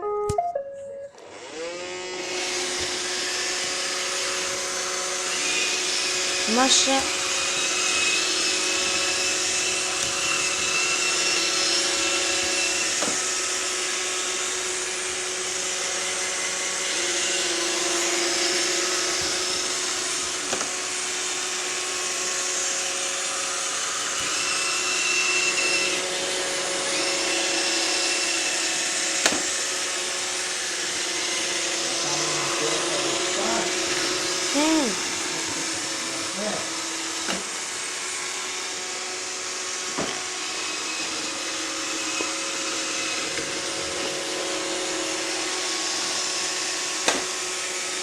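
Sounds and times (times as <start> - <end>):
robot vacuum running: 1.2 - 48.0.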